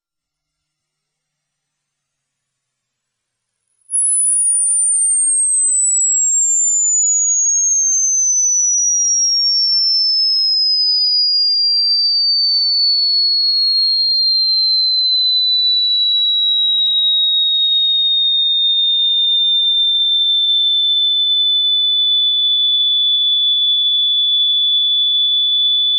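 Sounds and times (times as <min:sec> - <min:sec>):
sine tone sweeping downward: 0:03.8 - 0:25.9.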